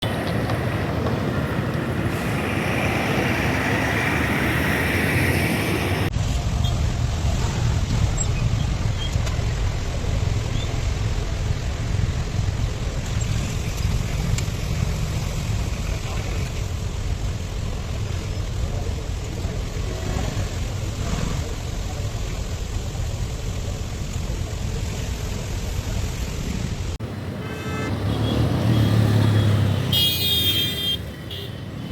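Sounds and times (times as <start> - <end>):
vehicle rumble: 0.0 - 31.9.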